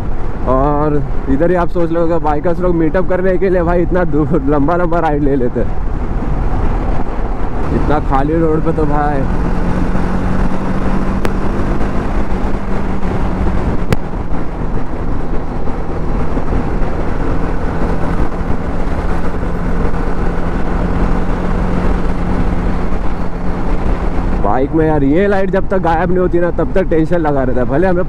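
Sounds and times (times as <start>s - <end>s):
motorcycle engine cruising: 0.0s - 28.0s
road noise: 0.0s - 28.0s
wind rushing: 3.3s - 27.0s.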